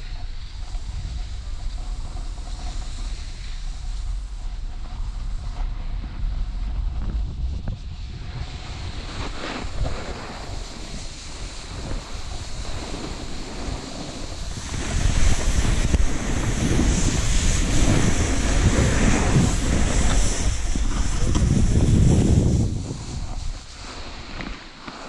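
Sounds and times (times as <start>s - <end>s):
wind buffeting microphone: 0.0s - 24.8s
skis sliding over packed snow: 0.0s - 25.0s.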